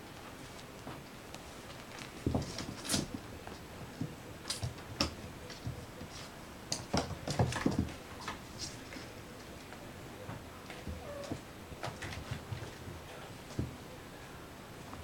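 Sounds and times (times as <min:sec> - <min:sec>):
cats tussling with cushions: 0:00.3 - 0:13.9.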